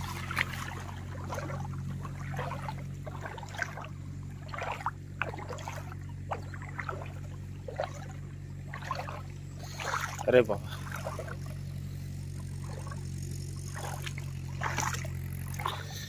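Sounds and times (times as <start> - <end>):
footsteps splashing in shallow water: 0.0 - 16.0
low hum: 0.0 - 16.0.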